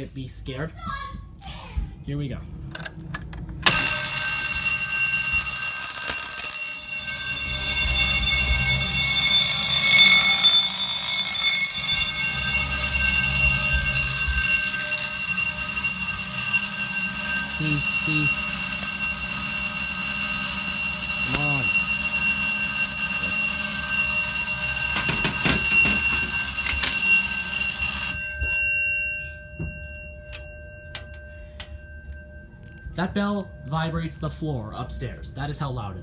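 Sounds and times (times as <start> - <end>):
fire alarm bell ringing: 3.6 - 36.0.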